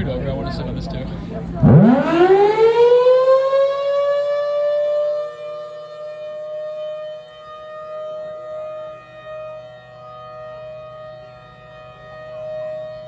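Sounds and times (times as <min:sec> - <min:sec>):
electromechanical siren high tone: 0:01.6 - 0:13.0.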